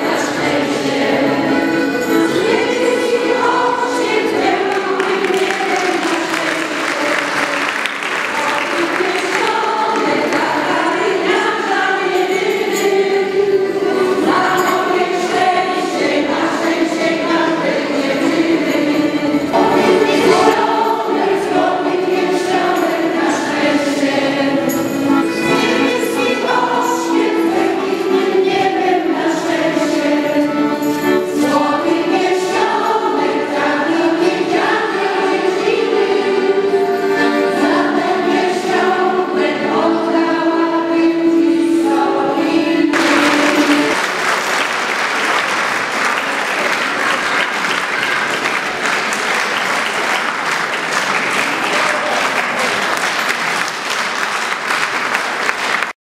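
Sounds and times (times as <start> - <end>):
women's choir singing: 0.0 - 44.8.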